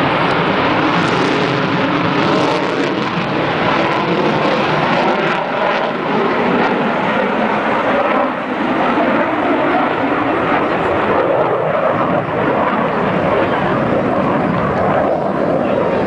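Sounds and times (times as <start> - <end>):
fighter jet engine rushing: 0.0 - 16.0.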